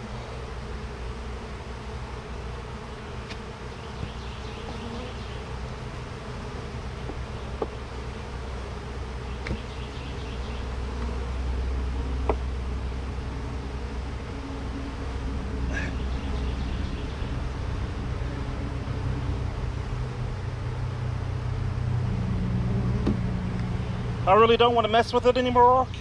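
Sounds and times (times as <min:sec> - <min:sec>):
bees buzzing: 0:00.0 - 0:25.6.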